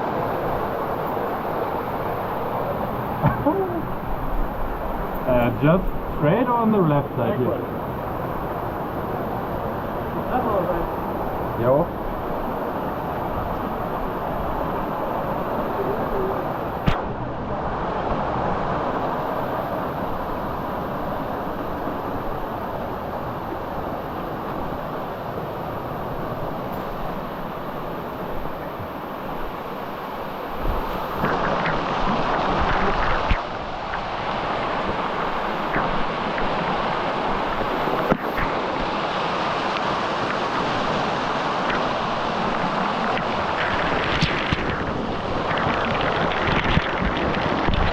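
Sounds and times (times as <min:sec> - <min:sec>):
rushing water roar: 0:00.0 - 0:47.9.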